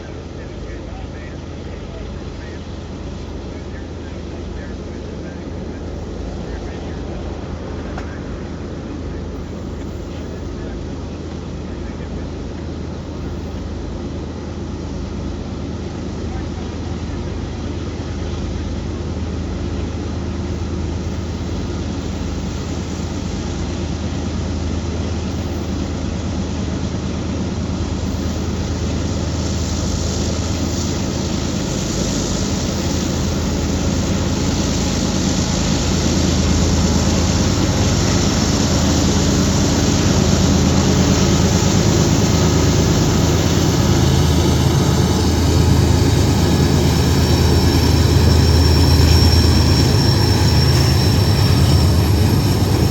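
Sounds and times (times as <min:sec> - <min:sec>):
locomotive engine rumble: 0:00.0 - 0:52.9.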